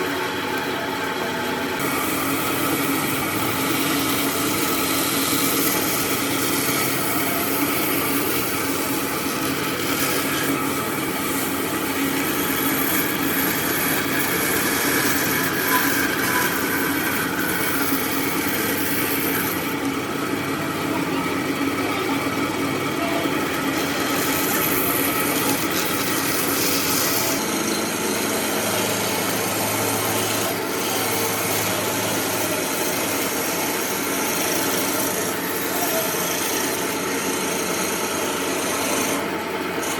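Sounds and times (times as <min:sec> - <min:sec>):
power tool grinding wood: 0:01.8 - 0:39.9.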